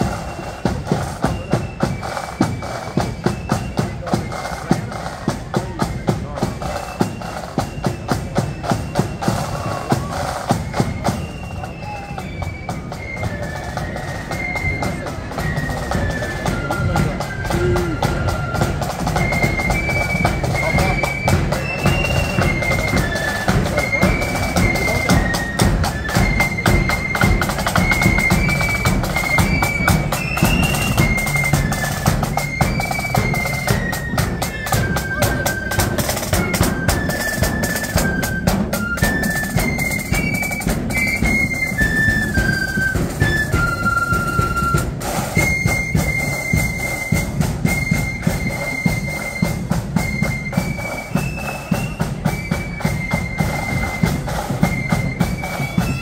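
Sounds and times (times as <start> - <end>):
high flute melody: 0.0 - 56.0
snare drumming: 0.0 - 56.0.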